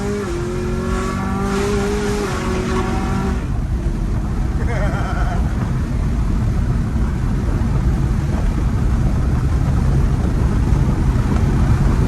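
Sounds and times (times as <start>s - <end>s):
car engine drone from inside: 0.0s - 12.0s.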